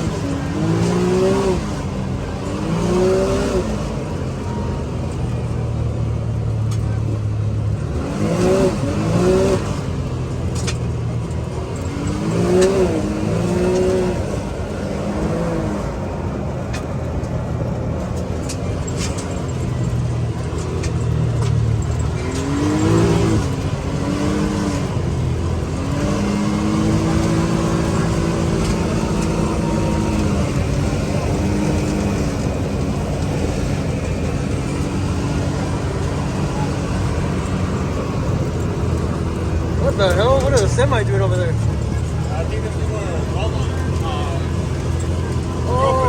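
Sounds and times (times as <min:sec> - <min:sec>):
vehicle engine revving: 0:00.0 - 0:46.0.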